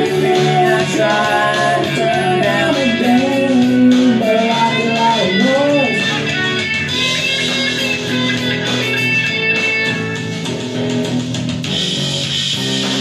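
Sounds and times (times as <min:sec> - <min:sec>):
electric guitar strumming chords: 0:00.0 - 0:13.0.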